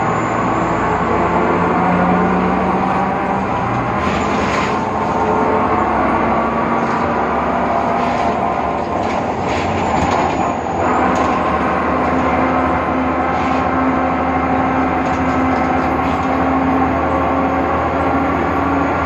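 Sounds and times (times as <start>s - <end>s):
bus engine drone: 0.0s - 19.0s
high differential whine: 0.0s - 19.0s.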